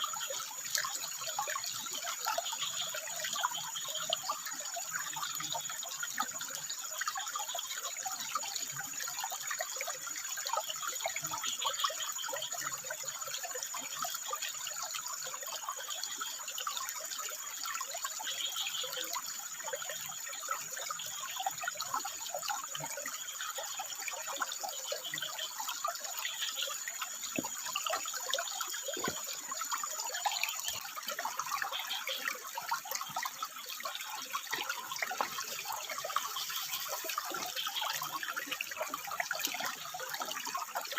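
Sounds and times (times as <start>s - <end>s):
water trickling over rocks: 0.0s - 40.9s.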